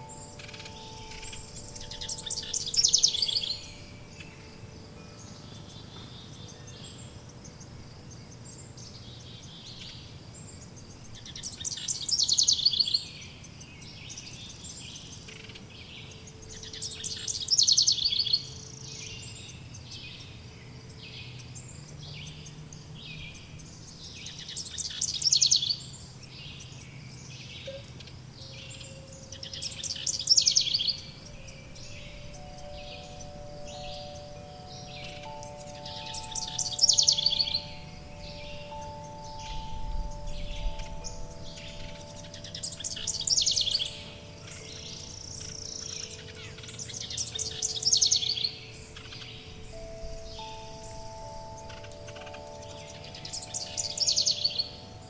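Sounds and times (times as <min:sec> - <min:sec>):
high bird chirps: 0:00.0 - 0:10.0, 0:10.6 - 0:55.0
bird trilled song: 0:00.0 - 0:55.0.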